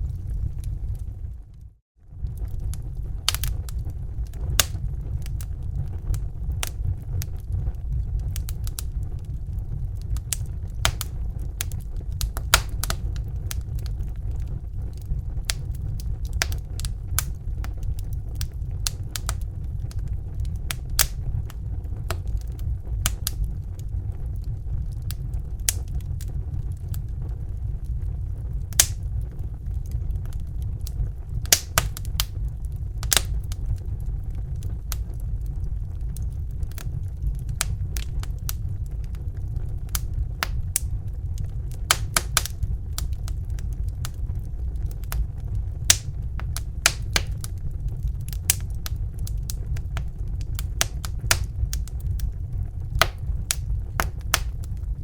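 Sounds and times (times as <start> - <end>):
fire popping and snapping: 0.0 - 55.0
low fire rumble: 0.0 - 55.0.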